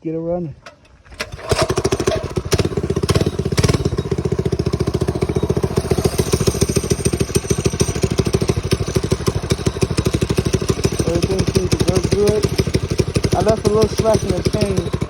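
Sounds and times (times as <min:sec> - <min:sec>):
small engine running: 0:01.2 - 0:15.0.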